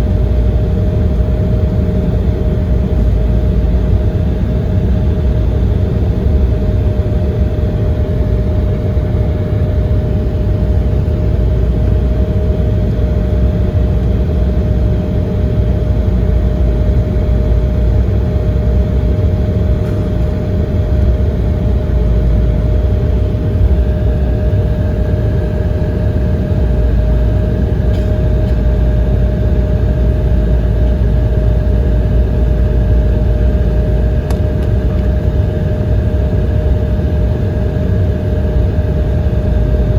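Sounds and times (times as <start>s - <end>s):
jet engines humming: 0.0s - 39.9s.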